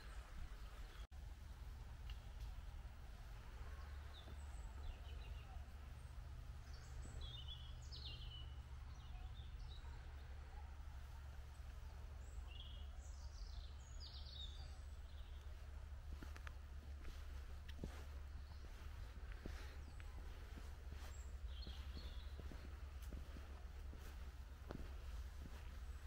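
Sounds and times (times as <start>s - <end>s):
birds chirping: 0.0s - 26.0s
low outdoor rumble: 0.0s - 26.0s.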